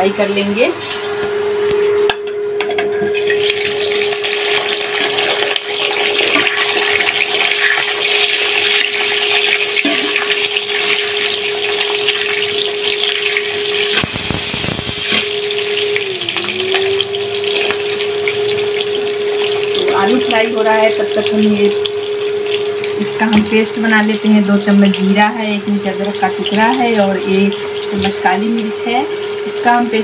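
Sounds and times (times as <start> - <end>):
steady hum: 0.0 - 30.0
potatoes frying in hot oil: 3.1 - 30.0.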